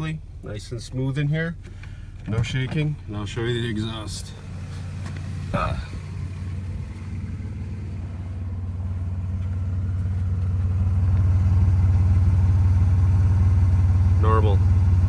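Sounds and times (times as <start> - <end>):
car exhaust idling: 0.0 - 15.0.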